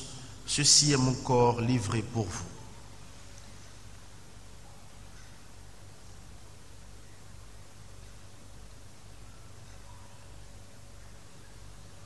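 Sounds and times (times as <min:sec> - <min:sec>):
low electrical hum: 0:00.0 - 0:12.0
steady hiss: 0:00.0 - 0:12.0.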